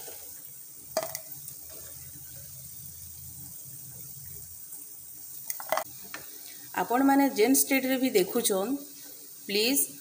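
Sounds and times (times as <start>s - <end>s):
oil sizzling around frying fritters: 0.0s - 10.0s.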